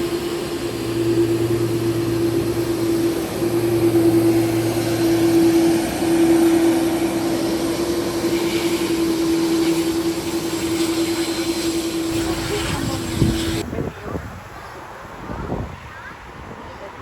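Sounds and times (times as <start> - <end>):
low hum: 0.0 - 13.6
aircraft engines droning: 0.0 - 14.0.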